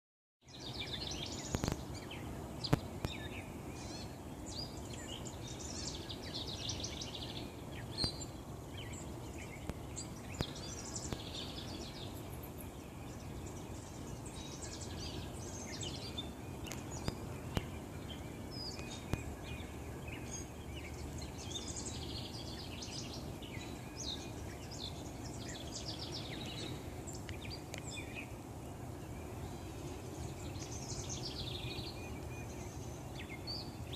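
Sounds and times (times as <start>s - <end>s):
small birds chirping: 0.4s - 33.9s.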